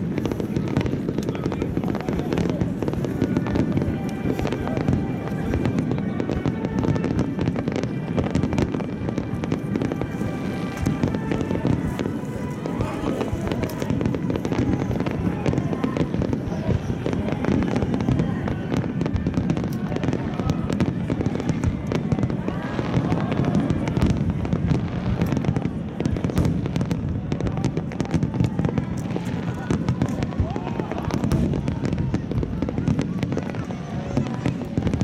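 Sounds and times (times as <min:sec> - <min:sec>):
crowd voices: 0:00.0 - 0:35.0
fireworks bangs and crackles: 0:00.0 - 0:35.0.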